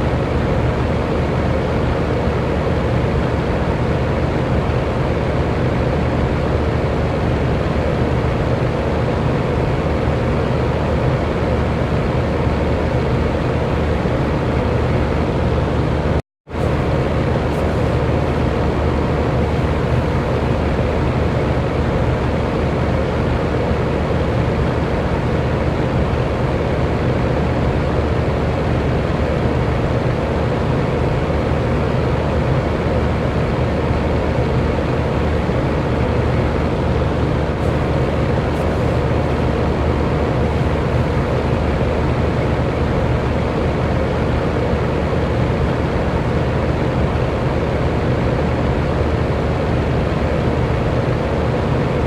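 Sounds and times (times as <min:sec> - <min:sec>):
electric fan running: 0:00.0 - 0:52.0.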